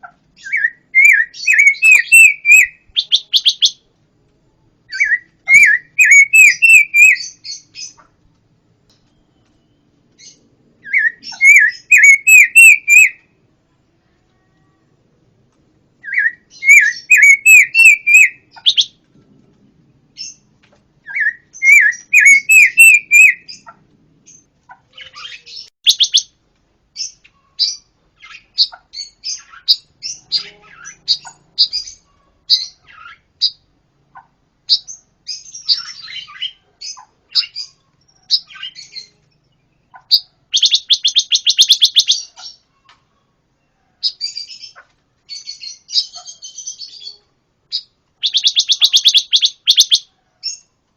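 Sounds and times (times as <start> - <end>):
songbird singing: 0.0 - 3.9, 4.8 - 13.4, 16.0 - 19.1, 19.9 - 50.7.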